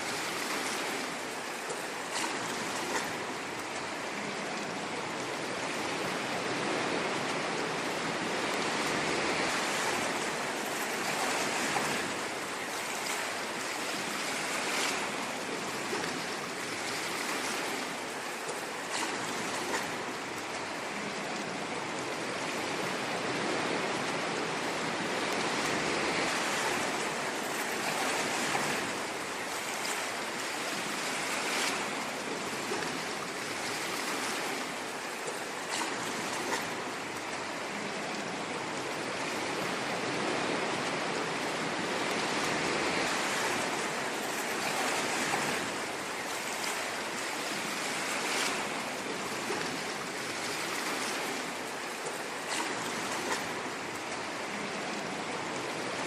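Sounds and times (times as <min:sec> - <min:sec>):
sea waves washing on shore: 0:00.0 - 0:56.0
water splashes: 0:00.0 - 0:56.0.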